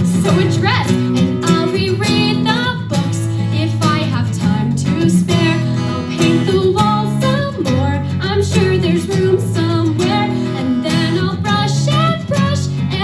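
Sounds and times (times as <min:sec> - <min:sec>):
strummed acoustic guitar: 0:00.0 - 0:13.0
woman singing with vibrato: 0:00.0 - 0:13.0.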